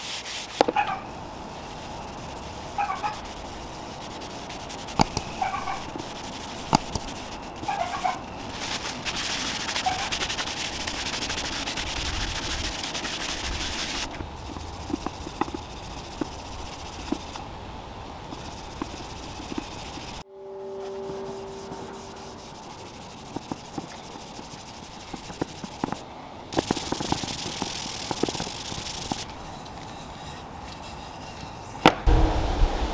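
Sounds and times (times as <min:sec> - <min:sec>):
cloth rag rubbing on wood: 0:00.0 - 0:17.4, 0:18.3 - 0:20.2, 0:20.8 - 0:26.0, 0:26.6 - 0:31.7.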